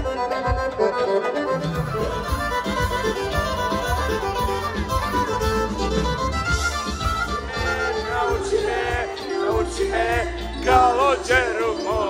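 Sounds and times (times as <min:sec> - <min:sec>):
lively music with steady beat: 0:00.0 - 0:12.0.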